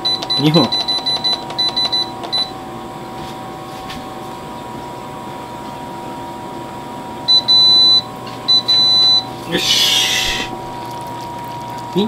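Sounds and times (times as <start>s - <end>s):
induction hob humming: 0.0s - 12.0s.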